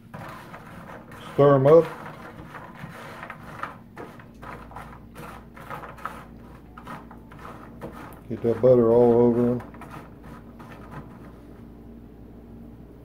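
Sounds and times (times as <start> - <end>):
spatula stirring nuts in a dish: 0.0 - 11.4.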